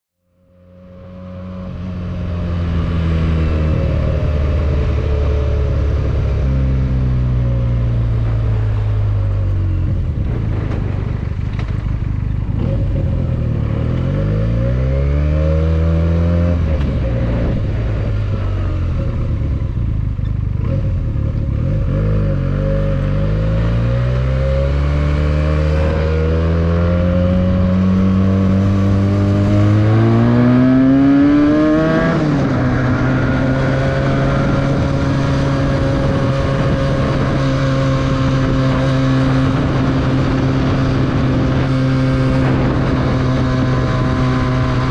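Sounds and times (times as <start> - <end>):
motorcycle engine accelerating: 0.2 - 44.9.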